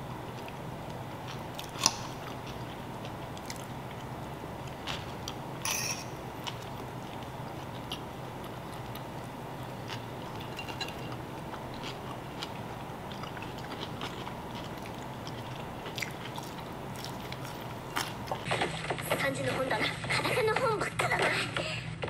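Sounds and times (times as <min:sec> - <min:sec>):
person chewing food: 0:00.0 - 0:19.0
low room hum: 0:00.0 - 0:22.0.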